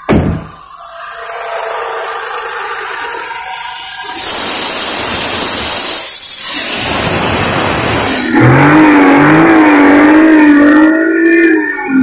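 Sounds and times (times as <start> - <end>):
car engine revving: 0.2 - 12.0
wavering tone: 0.6 - 12.0.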